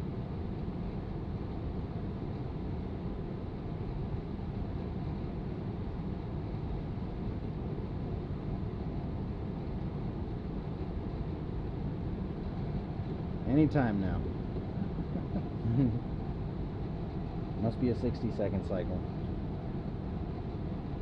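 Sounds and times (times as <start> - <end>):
furnace blower fan running: 0.0 - 21.0.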